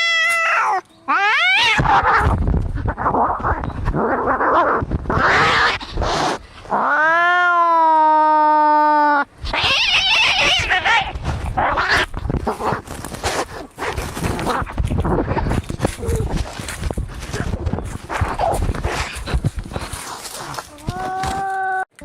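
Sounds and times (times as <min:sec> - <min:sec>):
cats fighting and screeching: 0:00.0 - 0:21.6.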